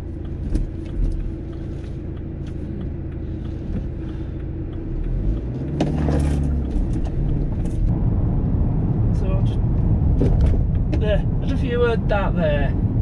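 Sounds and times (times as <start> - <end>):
diesel engine running: 0.0 - 13.0
road noise: 0.0 - 13.0.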